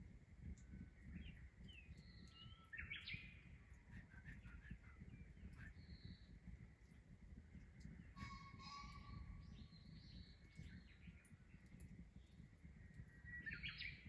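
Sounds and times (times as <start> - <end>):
faint bird chirps and whistles: 0.5 - 6.5, 7.9 - 14.0.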